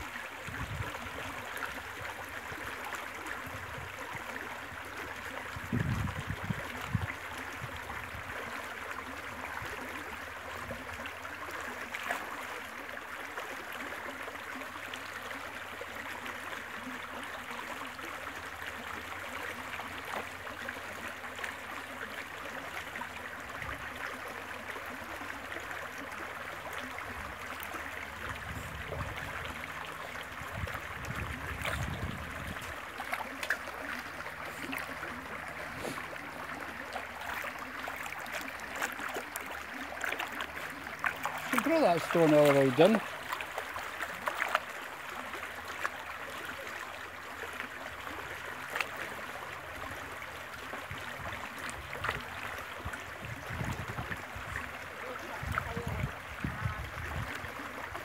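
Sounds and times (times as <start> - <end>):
stream rippling over stones: 0.0 - 58.0.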